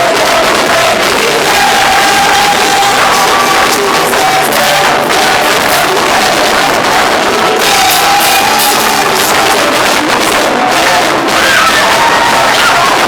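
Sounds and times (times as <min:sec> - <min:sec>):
congregation singing and calling out: 0:00.0 - 0:13.0
live praise music: 0:00.0 - 0:13.0.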